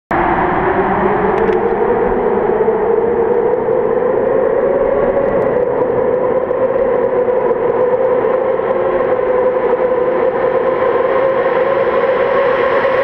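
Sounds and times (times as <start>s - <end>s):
motorcycle engine in tunnel: 0.1s - 13.0s.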